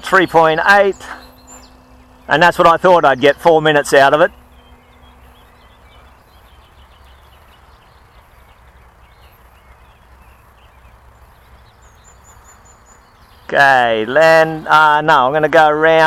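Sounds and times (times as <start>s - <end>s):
faint bird chirps: 0.0s - 14.6s
faint distant hum: 0.0s - 16.0s.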